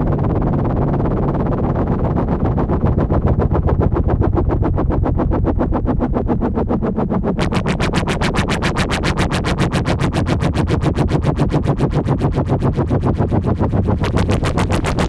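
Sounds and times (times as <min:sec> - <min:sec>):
low bass: 0:00.0 - 0:15.0.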